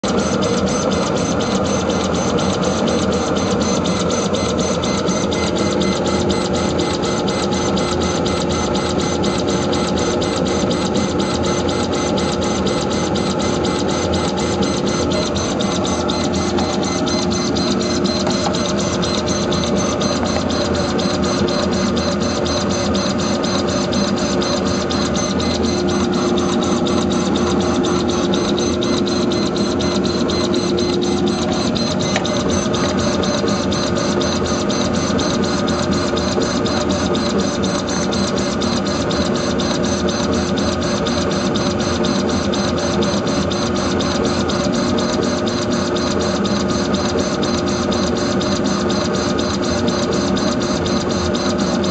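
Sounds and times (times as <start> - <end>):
laser engraver buzzing: 0.0 - 51.9.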